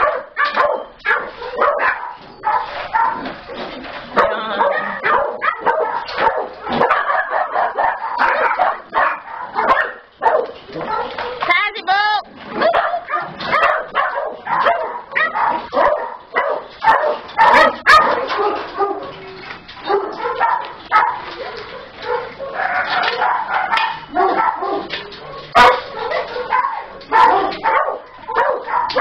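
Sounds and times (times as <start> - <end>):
small dogs barking and yipping: 0.0 - 29.0.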